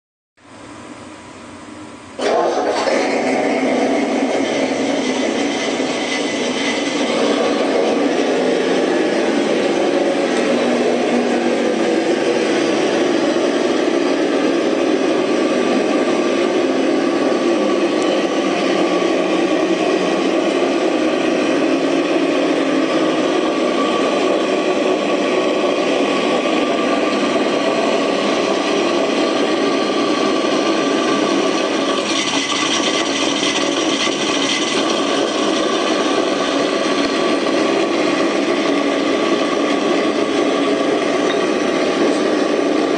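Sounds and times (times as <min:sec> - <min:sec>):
synthetic engine drone: 0:02.2 - 0:42.9.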